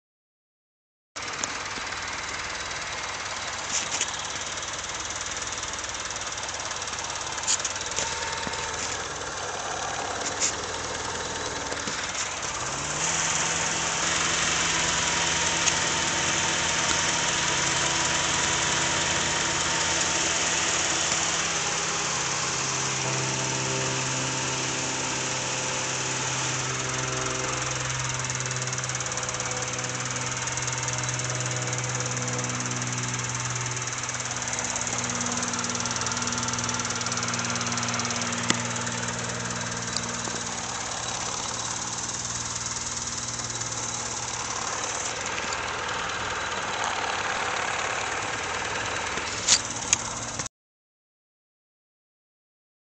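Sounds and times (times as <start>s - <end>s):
car engine with exhaust leak: 1.2s - 50.5s.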